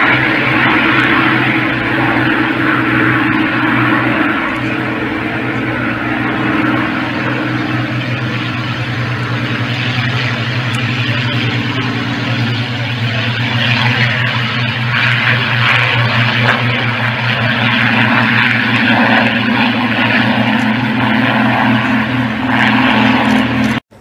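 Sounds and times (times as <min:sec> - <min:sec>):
propeller aircraft engines droning: 0:00.0 - 0:24.0.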